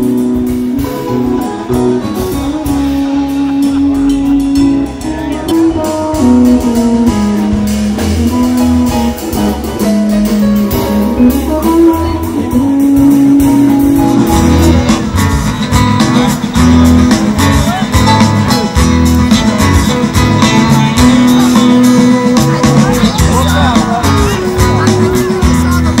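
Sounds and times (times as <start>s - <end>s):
bass: 0.0s - 26.0s
drums: 0.0s - 26.0s
strummed guitar: 0.0s - 26.0s.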